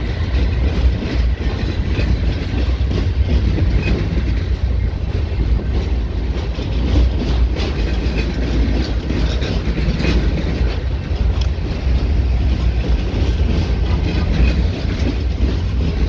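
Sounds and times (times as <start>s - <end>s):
freight train rumble: 0.0s - 16.0s
wheels clacking on rails: 0.0s - 16.0s.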